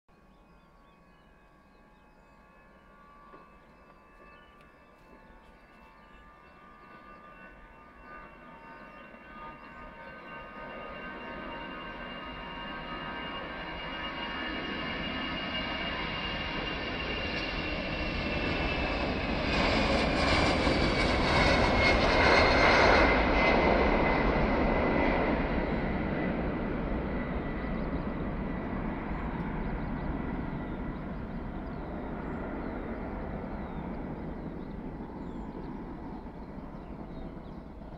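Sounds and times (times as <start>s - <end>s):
jet engine whine: 0.1s - 37.9s
jet airliner taking off: 3.0s - 37.9s.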